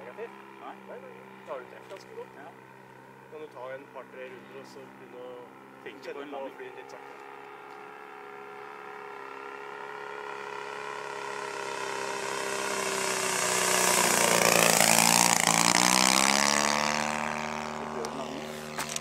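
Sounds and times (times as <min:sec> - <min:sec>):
model plane engine flying by: 0:00.0 - 0:19.0.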